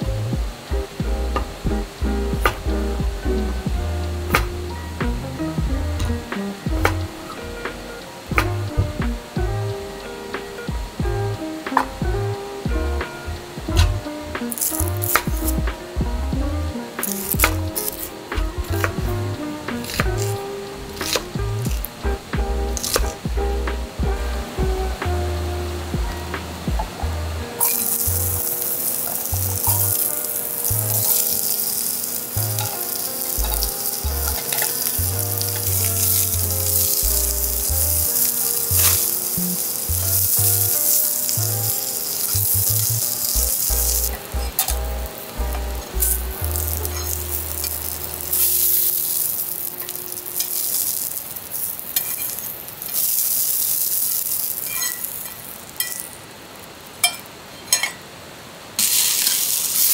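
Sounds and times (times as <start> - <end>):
food sizzling in hot pan: 0.0 - 59.9.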